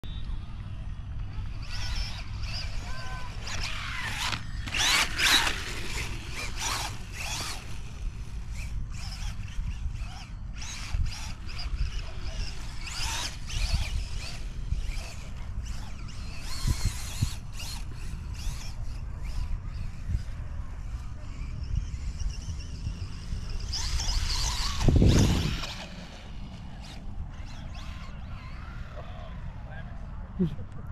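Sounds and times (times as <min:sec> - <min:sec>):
wind rumbling on microphone: 0:00.3 - 0:30.9.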